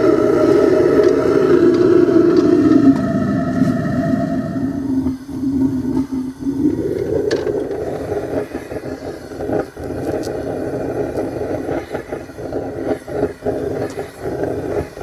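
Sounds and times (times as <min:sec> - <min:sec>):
gas burner running: 0:00.0 - 0:15.0.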